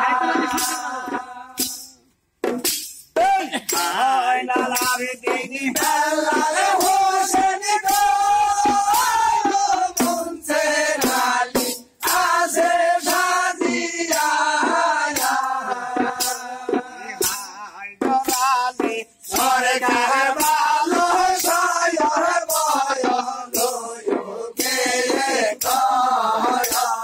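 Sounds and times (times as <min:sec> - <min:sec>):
men singing in chorus: 0:00.0 - 0:01.8, 0:03.2 - 0:27.0.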